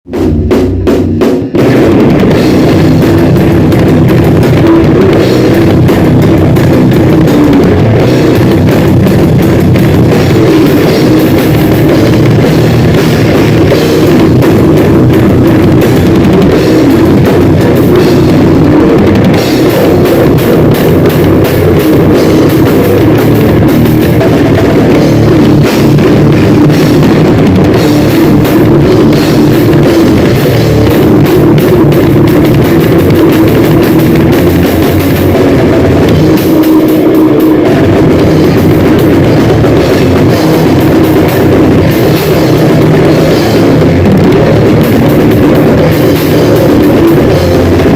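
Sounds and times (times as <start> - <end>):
fast drum kit with cymbals: 0.0 - 47.9
grindcore band playing: 0.0 - 47.9.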